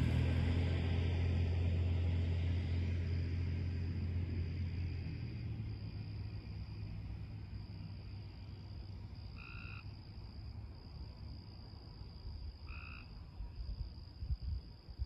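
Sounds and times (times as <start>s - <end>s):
night insects droning: 0.0s - 15.0s.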